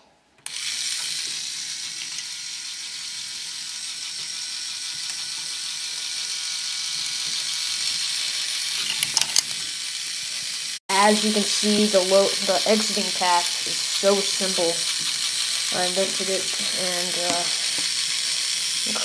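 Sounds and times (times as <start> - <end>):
toy motor whirring: 0.4 - 19.0.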